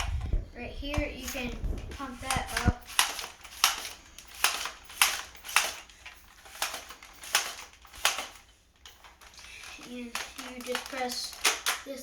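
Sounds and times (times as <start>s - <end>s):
air pump strokes: 0.0s - 12.0s.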